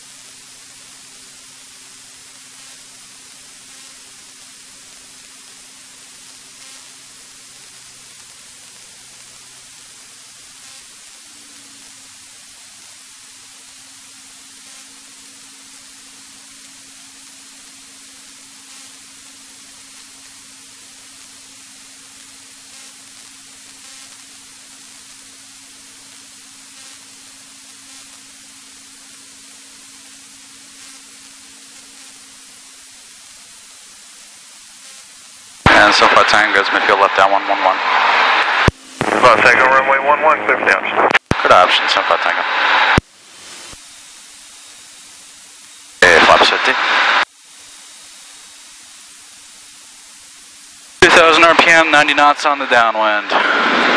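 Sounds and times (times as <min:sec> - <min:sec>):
faint steady hum: 0:00.0 - 0:53.9
intercom hiss: 0:00.0 - 0:53.9.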